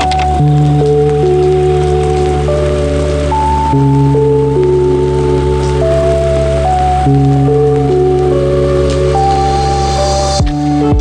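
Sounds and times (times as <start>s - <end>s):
slow ambient music: 0.0s - 11.0s
steady hiss: 0.0s - 11.0s.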